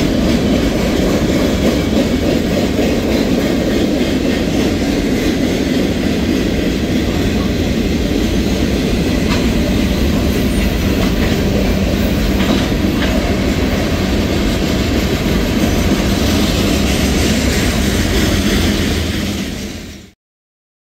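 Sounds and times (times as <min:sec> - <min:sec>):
train wheels rumbling on rails: 0:00.0 - 0:20.2.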